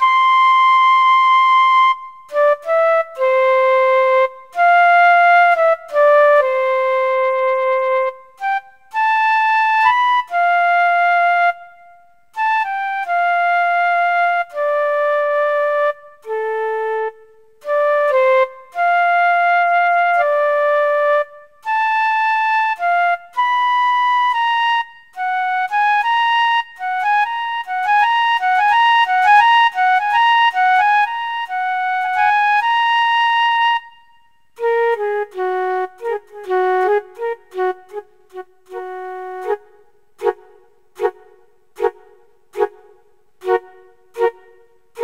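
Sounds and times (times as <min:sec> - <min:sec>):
solo melody of held notes: 0:00.0 - 0:45.0.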